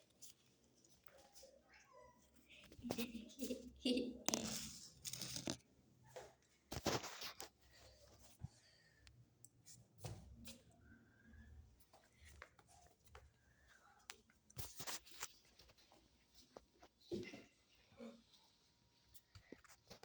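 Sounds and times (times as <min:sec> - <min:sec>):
faint clicks and rustles: 0:00.0 - 0:20.0.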